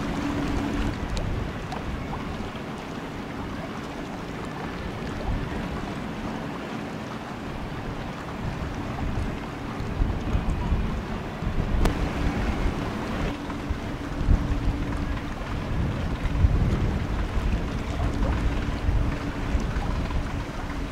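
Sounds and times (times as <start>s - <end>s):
distant ship engines rumbling: 0.0s - 20.9s
engine hum: 0.0s - 20.9s
wind buffeting microphone: 0.0s - 20.9s.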